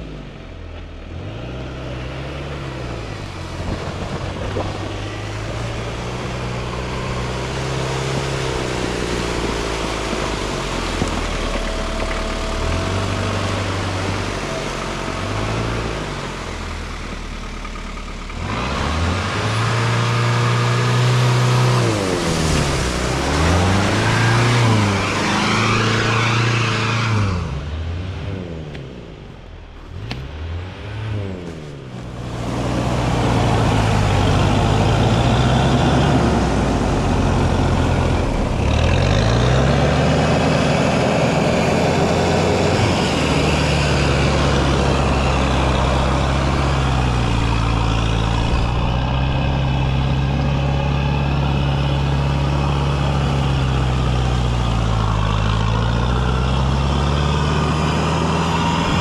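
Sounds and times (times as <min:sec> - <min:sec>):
car engine revving: 0:00.0 - 0:59.0
tyres splashing through mud: 0:00.6 - 0:59.0.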